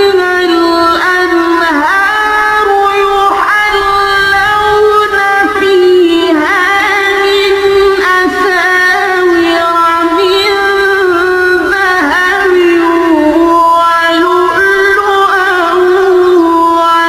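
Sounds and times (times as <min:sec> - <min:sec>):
person chanting melodic recitation: 0:00.0 - 0:17.0.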